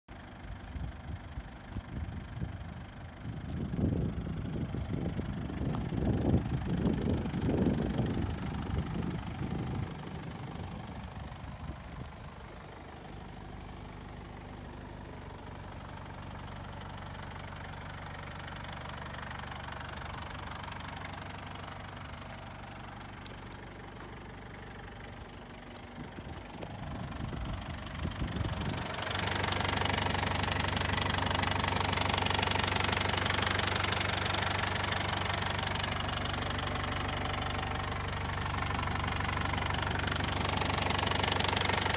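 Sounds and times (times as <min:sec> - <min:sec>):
diesel engine idling: 0:00.1 - 0:41.9.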